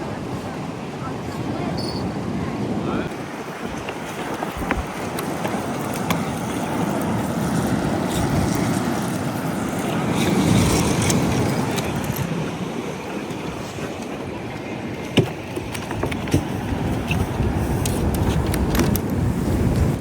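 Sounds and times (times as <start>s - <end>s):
surf: 0.0s - 20.0s
wind: 0.0s - 20.0s.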